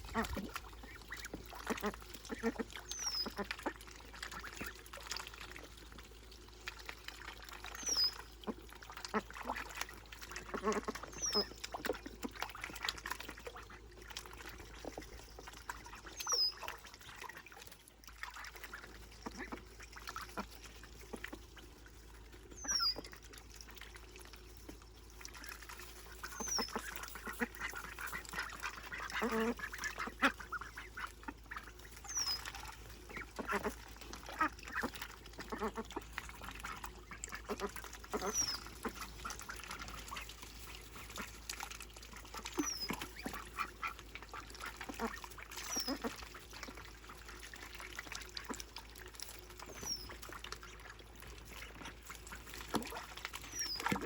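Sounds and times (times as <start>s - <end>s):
ducklings peeping: 0.0s - 54.0s
splashes in shallow water: 0.0s - 54.0s.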